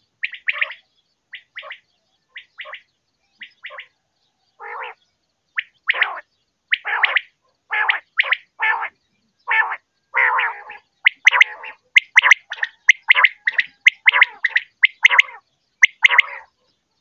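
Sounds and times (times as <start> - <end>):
quail calling: 0.0 - 4.0, 4.6 - 5.0, 5.6 - 16.6.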